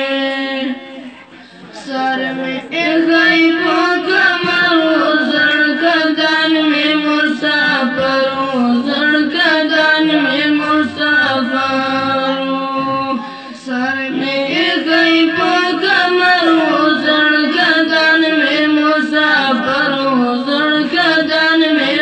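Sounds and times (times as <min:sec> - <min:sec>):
boys singing unaccompanied: 0:01.6 - 0:22.0.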